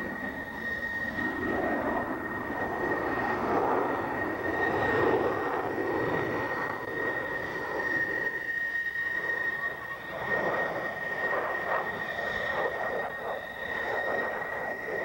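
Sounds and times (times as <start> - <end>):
jet flying overhead: 0.0 - 15.0.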